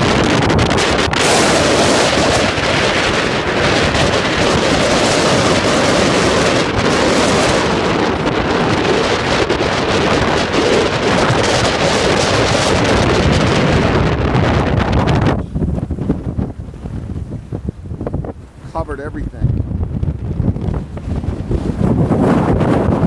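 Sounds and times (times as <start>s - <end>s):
wind blowing across microphone: 0.0s - 23.0s.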